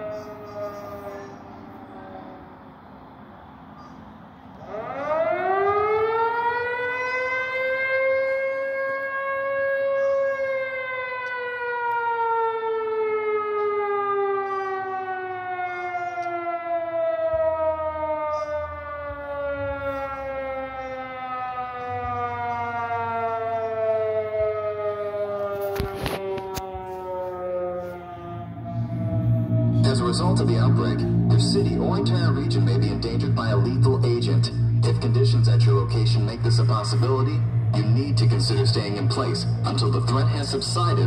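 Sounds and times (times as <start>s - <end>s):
civil defense siren wailing: 0.0s - 41.0s.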